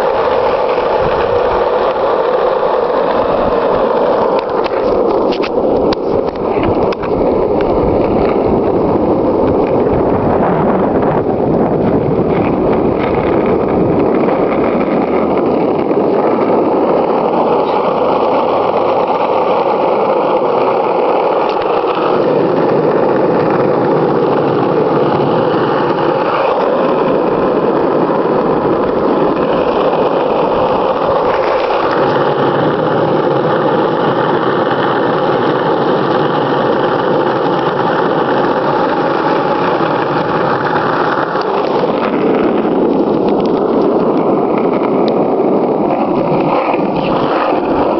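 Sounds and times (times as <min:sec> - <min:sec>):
skateboard wheels rolling on asphalt: 0:00.0 - 0:47.9.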